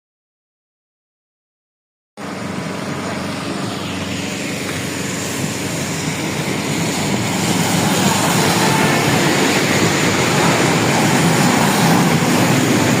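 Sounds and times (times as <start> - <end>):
wind and road noise: 2.2 - 13.0.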